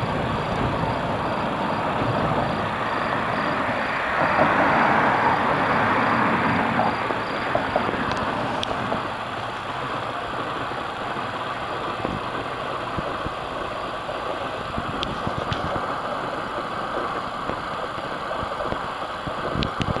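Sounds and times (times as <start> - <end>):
train running by: 0.0 - 20.0.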